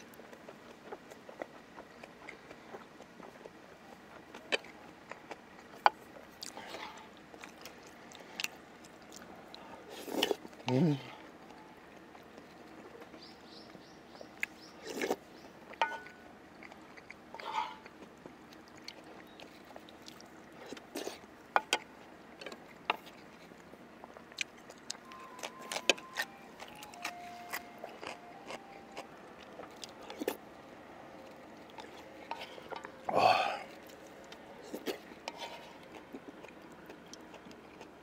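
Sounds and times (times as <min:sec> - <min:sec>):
chewing and biting food: 0:00.0 - 0:38.0.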